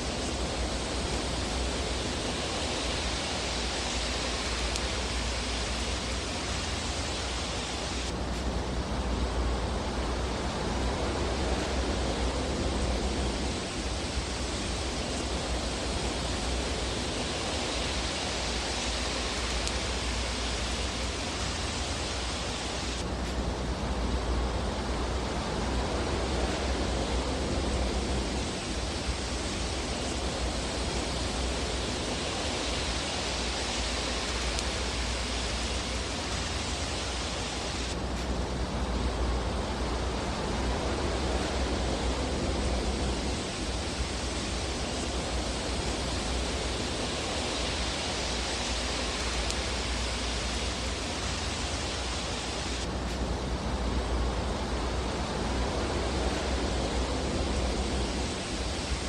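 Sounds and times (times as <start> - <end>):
fireplace rushing hiss: 0.0 - 59.0.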